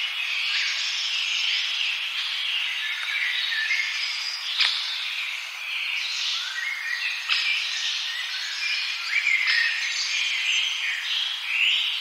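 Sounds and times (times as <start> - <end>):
forest birds chirping: 0.0 - 12.0.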